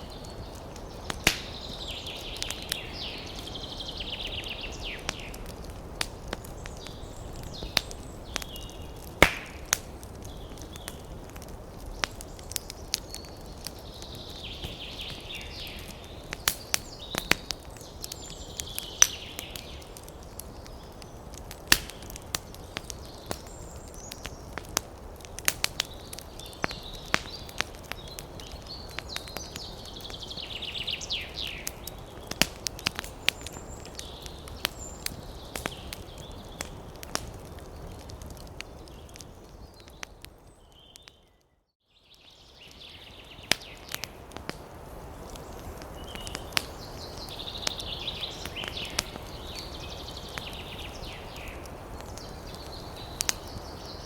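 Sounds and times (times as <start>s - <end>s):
wood fire crackling and popping: 0.0s - 41.6s, 42.2s - 54.0s.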